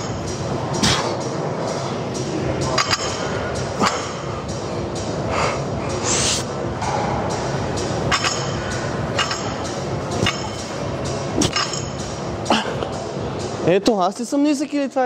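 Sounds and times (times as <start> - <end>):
music with steady beat: 0.0 - 14.1.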